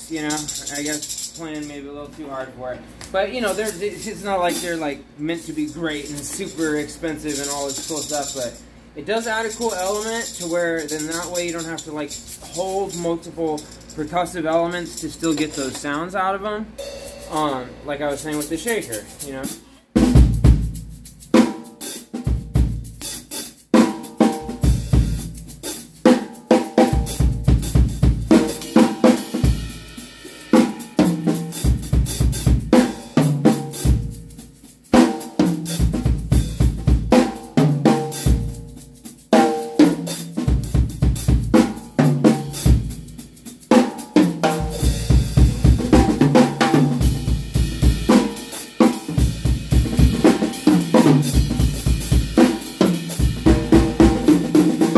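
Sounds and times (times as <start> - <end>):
tambourine jingles: 0.0 - 1.9, 3.3 - 16.0, 18.1 - 54.9
acoustic drum kit playing: 3.2 - 16.1, 16.7 - 54.9.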